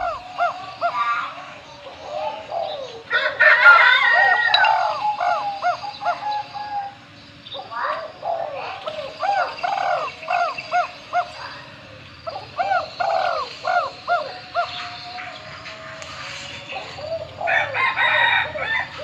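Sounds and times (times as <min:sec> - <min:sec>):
bird calling: 0:00.0 - 0:19.0.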